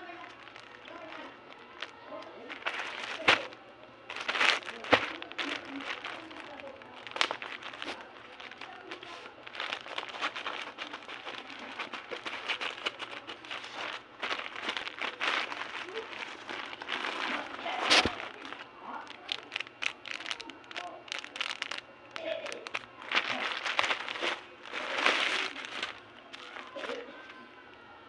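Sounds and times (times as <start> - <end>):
packaging crinkling: 0.0 - 27.5.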